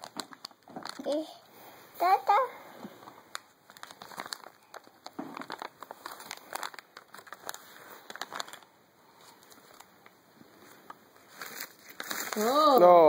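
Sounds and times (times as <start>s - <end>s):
wrappers crinkling: 0.0s - 1.4s, 3.0s - 13.0s.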